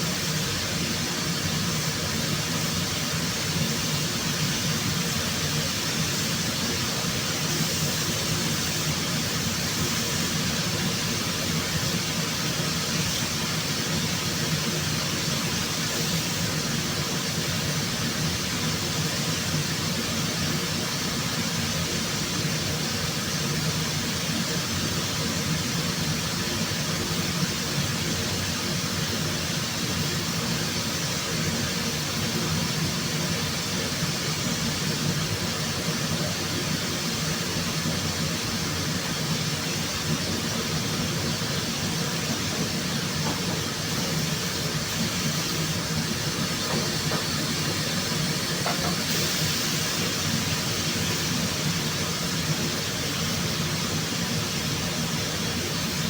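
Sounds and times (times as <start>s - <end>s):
machinery humming with hiss: 0.0s - 56.0s.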